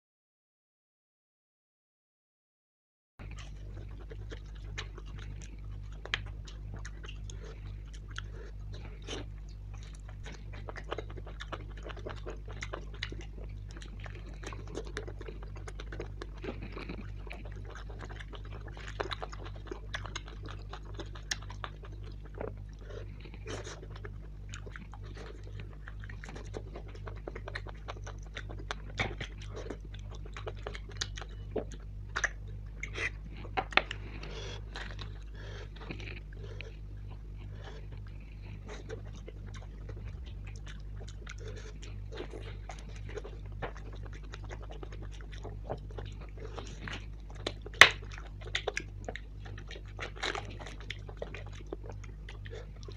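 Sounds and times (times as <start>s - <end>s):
low hum: 3.2s - 52.9s
man chewing food: 3.2s - 52.9s.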